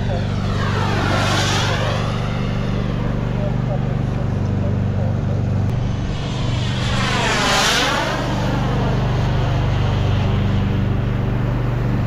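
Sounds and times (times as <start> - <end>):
model jet whooshing past: 0.0 - 12.0
steady low hum: 0.0 - 12.0.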